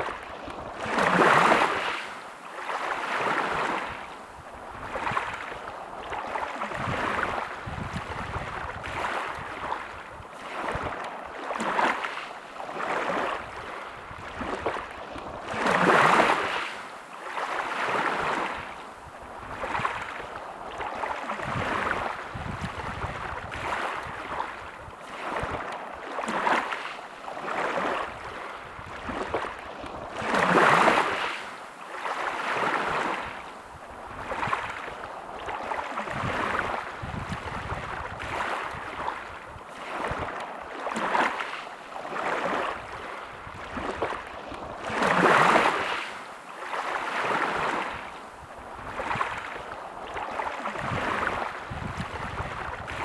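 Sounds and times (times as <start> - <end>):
big waves breaking: 0.0 - 53.0
ocean waves washing onto shore: 0.0 - 53.0.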